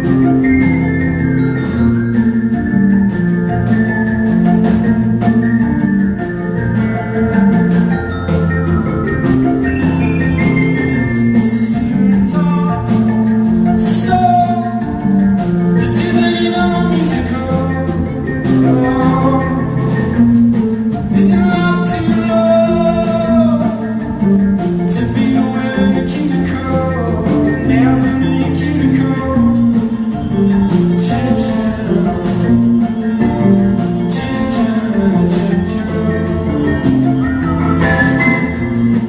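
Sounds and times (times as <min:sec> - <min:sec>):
bass line: 0:00.0 - 0:39.0
live band playing: 0:00.0 - 0:39.0.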